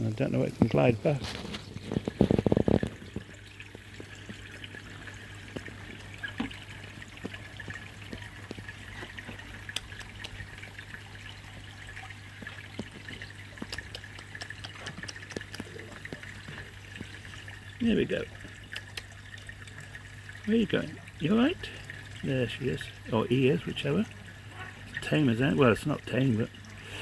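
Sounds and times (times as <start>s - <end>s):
low steady hum: 0.0s - 27.0s
water trickling in pond: 0.0s - 27.0s.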